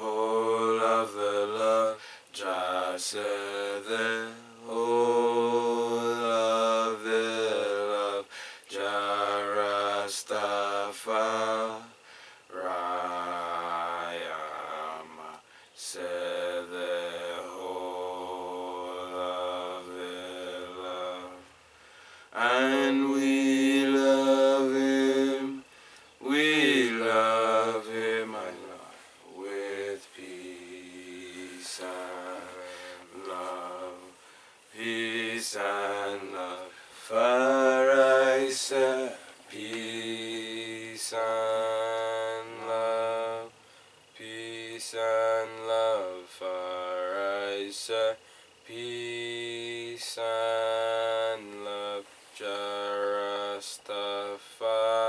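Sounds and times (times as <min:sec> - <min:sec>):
person chanting a prayer: 0:00.0 - 0:21.5, 0:22.3 - 0:55.0.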